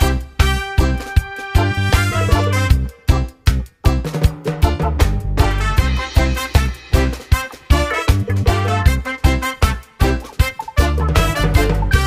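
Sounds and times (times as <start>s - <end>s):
music with strong bass beat: 0.0s - 12.0s.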